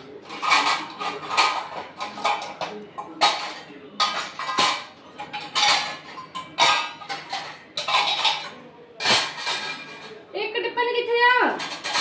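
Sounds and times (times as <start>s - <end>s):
metal dishes clattering: 0.0s - 10.3s, 11.5s - 12.0s.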